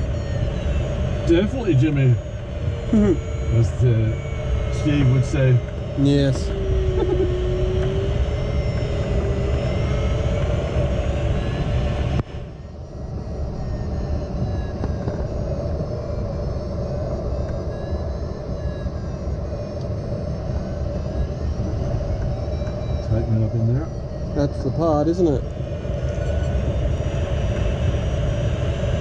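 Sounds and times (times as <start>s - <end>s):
airflow noise around cockpit: 0.0s - 29.0s.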